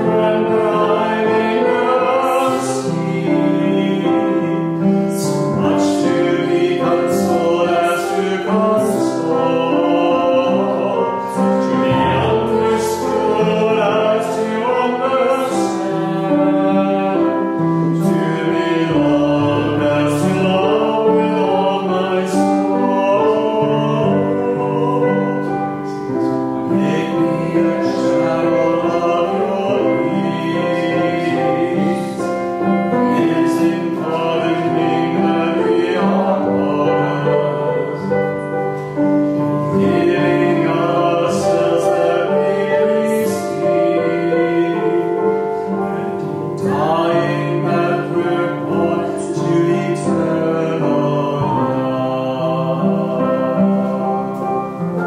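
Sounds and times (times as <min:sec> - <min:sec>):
hymn sung slowly: 0:00.0 - 0:55.0
instrumental accompaniment: 0:00.0 - 0:55.0.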